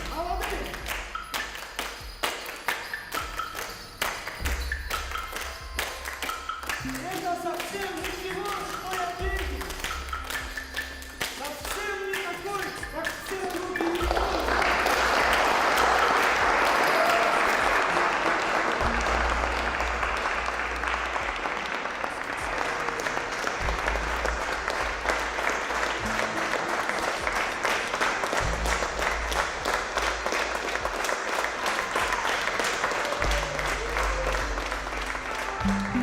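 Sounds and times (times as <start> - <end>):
audience applauding: 0.0 - 36.0
background music with bass: 0.0 - 36.0.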